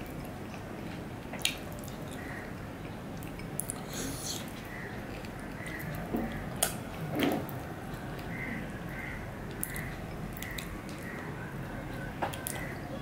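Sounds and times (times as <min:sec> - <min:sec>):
soft eating sounds: 0:00.0 - 0:13.0.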